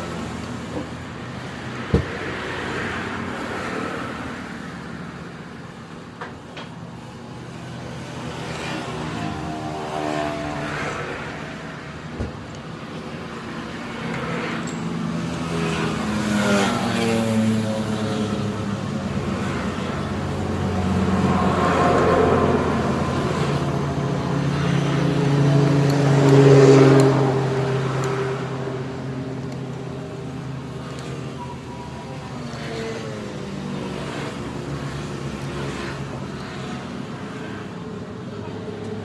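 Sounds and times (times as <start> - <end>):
vehicle engines passing: 0.0 - 39.0.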